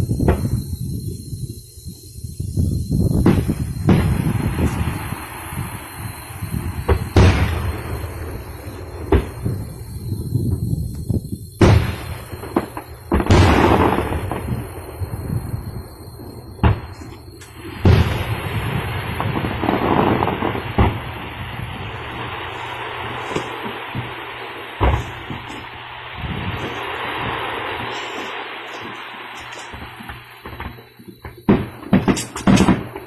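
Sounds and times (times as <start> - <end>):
sharp outdoor bangs: 3.1 - 24.2, 24.8 - 33.0.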